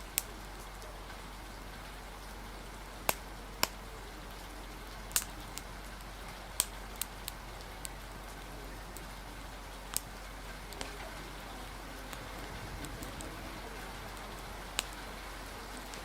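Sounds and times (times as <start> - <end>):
rain hiss: 0.0 - 16.0
wood fire crackling and popping: 0.0 - 16.0.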